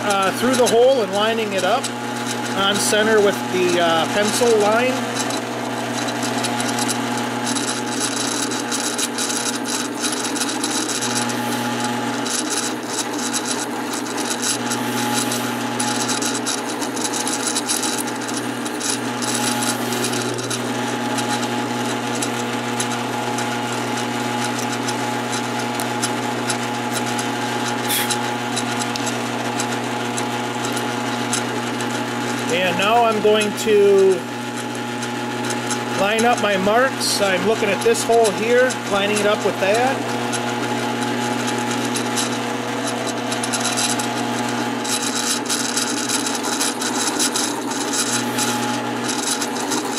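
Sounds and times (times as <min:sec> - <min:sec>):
drill bit cutting wood: 0:00.0 - 0:49.9
drill press motor humming: 0:00.0 - 0:49.9.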